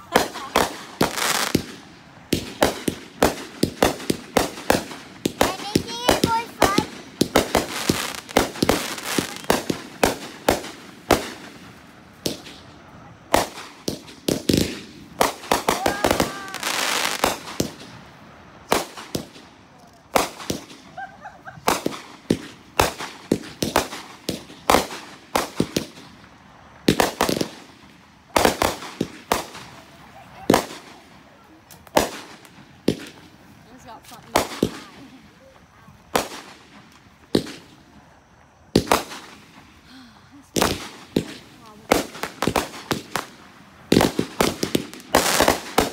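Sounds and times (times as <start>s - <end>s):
fireworks bangs: 0.0s - 45.9s
fireworks hissing and crackling: 0.0s - 45.9s.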